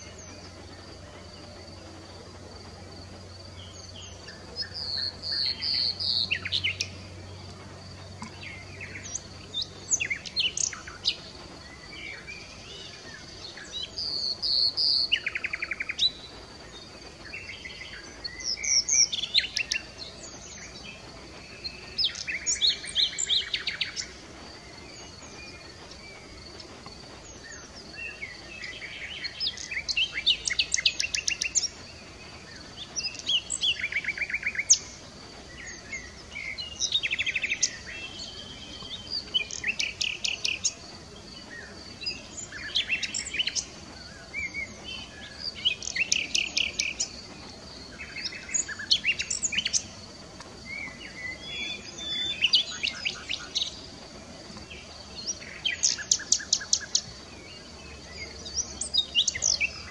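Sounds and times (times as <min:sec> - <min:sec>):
nightingale singing: 0:03.3 - 0:59.9.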